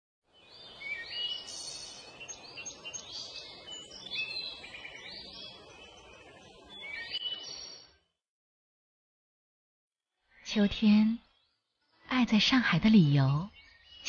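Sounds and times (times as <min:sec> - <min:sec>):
birds singing: 0:00.3 - 0:08.0, 0:10.3 - 0:14.0.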